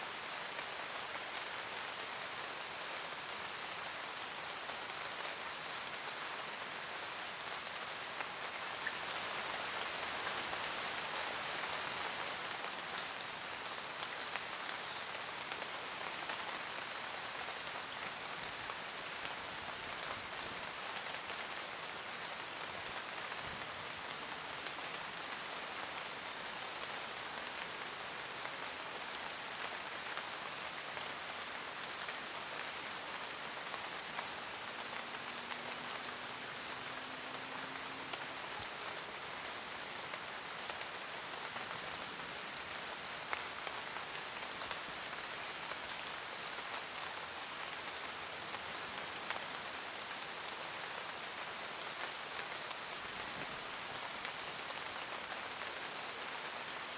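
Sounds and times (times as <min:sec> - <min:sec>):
rain pattering: 0:00.1 - 0:56.9.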